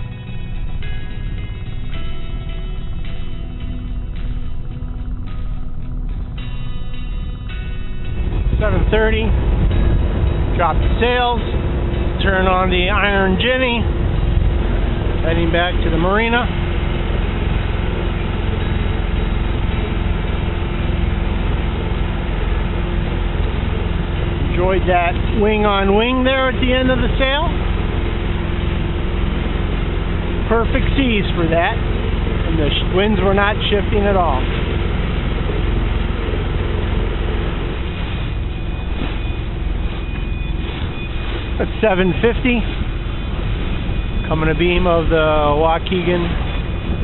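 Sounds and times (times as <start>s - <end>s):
boat engine running: 0.0s - 47.0s
rush of wind and water: 0.0s - 47.0s.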